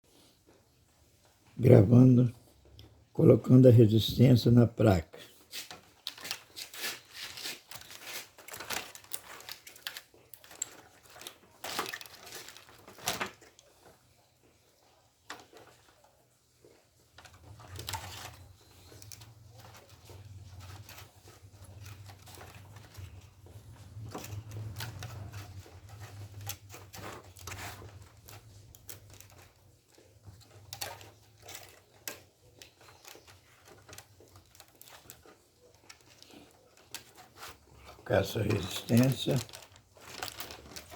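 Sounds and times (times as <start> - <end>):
hands rustling and scraping: 0.0 - 40.9.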